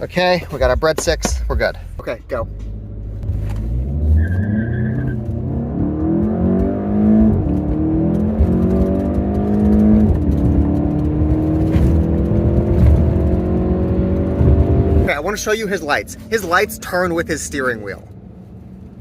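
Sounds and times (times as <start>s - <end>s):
car engine accelerating hard: 2.0s - 19.0s.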